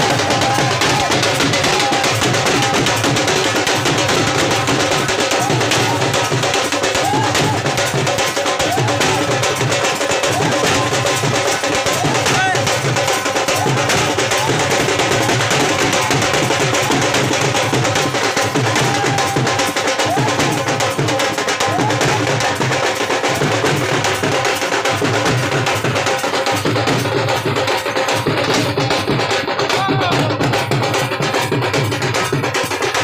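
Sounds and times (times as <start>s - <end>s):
drums playing dense beat: 0.0s - 33.0s.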